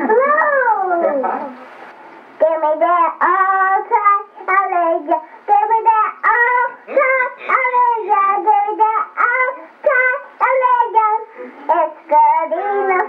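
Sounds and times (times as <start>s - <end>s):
girl singing unaccompanied: 2.4s - 13.0s.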